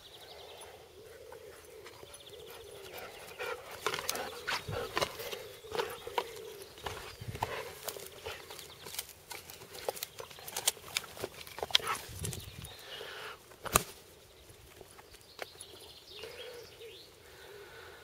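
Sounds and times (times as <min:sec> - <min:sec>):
faint birdsong: 0:00.0 - 0:18.0.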